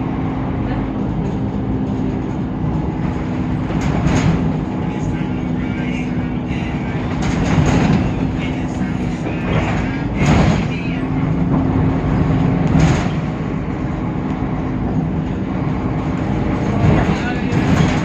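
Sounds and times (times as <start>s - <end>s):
bus diesel engine humming: 0.0s - 18.0s
road rumble: 0.0s - 18.0s.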